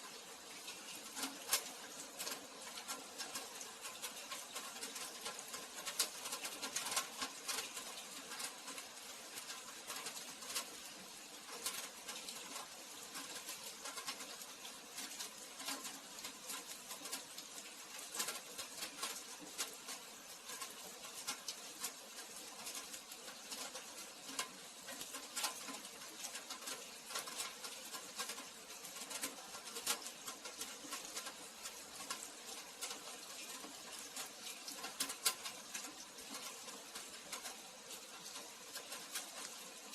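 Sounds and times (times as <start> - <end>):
rain falling: 0.0 - 39.9
raindrops ticking: 0.0 - 39.9.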